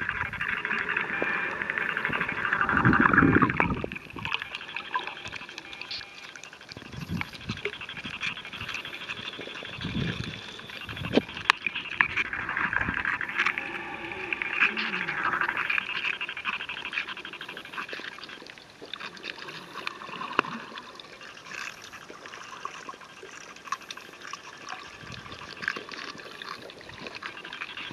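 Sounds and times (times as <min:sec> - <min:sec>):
crackle of tiny underwater clicks: 0:00.0 - 0:27.9
water noise: 0:00.0 - 0:27.9.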